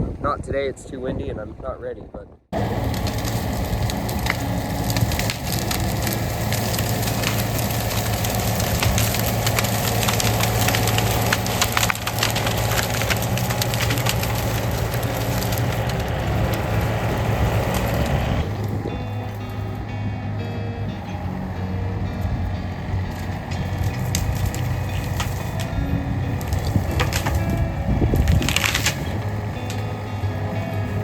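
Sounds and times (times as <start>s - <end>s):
excavator engine running: 2.5s - 31.0s
branches crackling and snapping: 2.6s - 20.0s, 21.2s - 31.0s.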